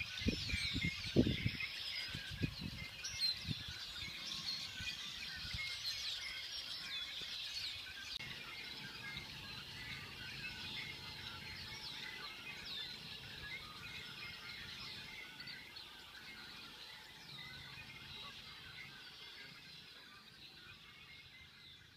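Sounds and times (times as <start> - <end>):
blackbirds calling: 0.0 - 21.9.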